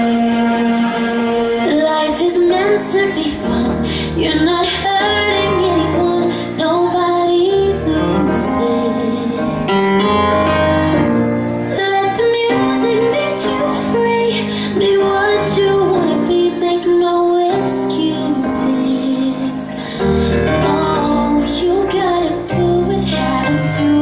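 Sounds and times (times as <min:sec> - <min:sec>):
instrumental accompaniment: 0:00.0 - 0:24.0
woman singing: 0:01.6 - 0:10.1, 0:11.7 - 0:24.0.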